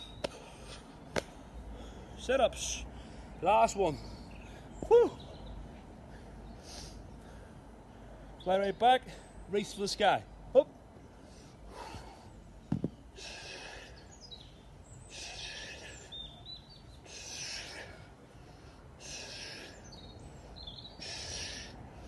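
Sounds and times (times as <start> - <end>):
birds chirping faintly: 0.0 - 22.0.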